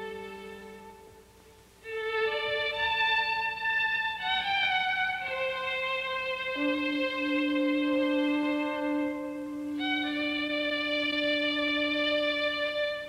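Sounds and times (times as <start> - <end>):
instrumental music long notes: 0.0 - 13.0.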